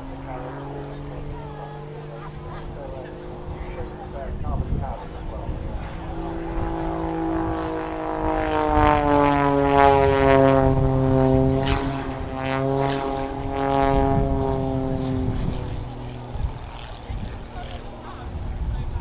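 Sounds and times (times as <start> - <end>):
biplane flying past: 0.0 - 19.0.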